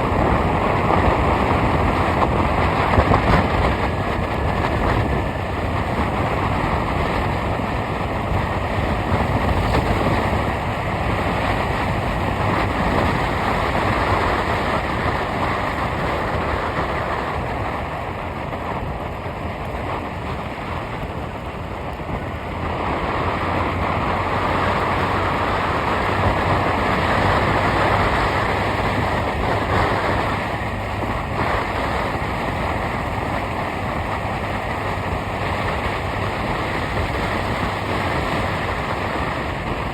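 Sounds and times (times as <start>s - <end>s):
vehicle road and wind noise: 0.0s - 39.9s.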